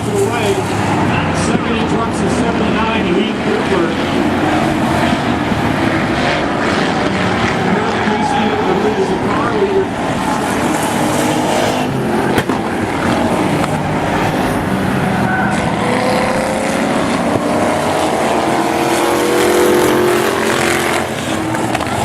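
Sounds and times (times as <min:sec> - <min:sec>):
race car engines revving: 0:00.0 - 0:22.0.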